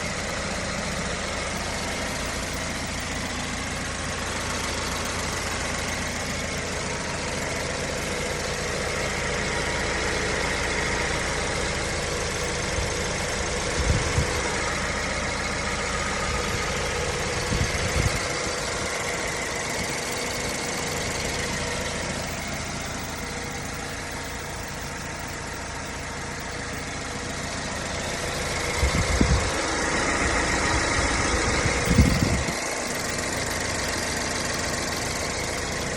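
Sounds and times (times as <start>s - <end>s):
car engine idling: 0.0s - 35.9s
engine ticking: 0.0s - 35.9s.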